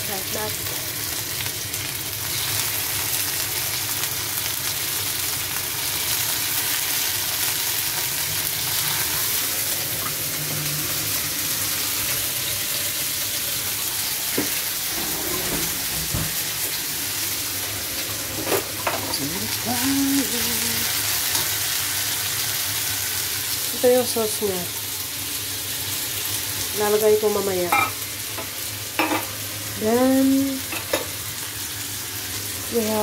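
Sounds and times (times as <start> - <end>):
chicken frying in hot oil: 0.0 - 33.0.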